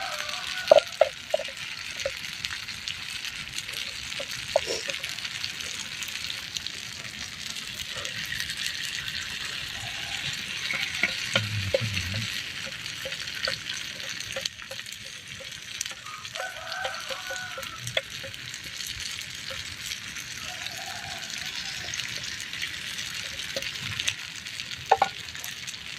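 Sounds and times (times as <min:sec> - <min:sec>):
food sizzling in hot oil: 0:00.0 - 0:25.9
oil popping and crackling: 0:00.0 - 0:25.9.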